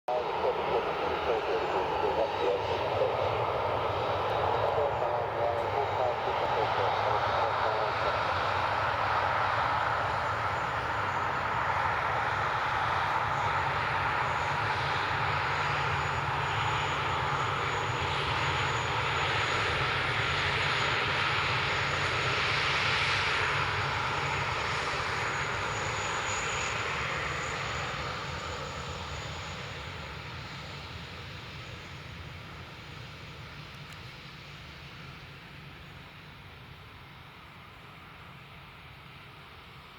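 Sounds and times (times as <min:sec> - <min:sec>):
jet engines at takeoff: 0:00.0 - 0:39.9.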